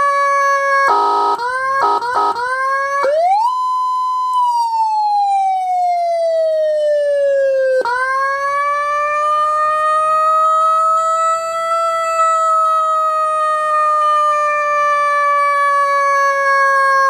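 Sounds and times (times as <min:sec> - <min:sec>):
electronic siren slow wail: 0:00.0 - 0:17.0.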